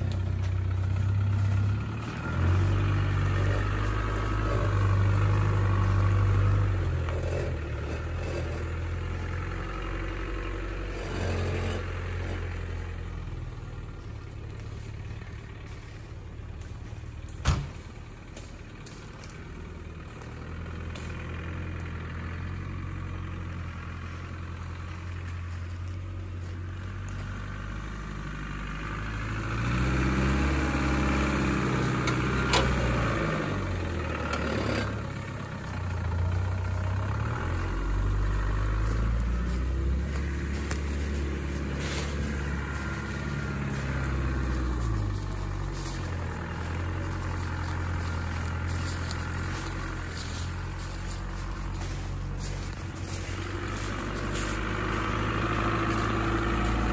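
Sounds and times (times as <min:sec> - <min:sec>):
car engine running at low revs: 0:00.0 - 0:56.9.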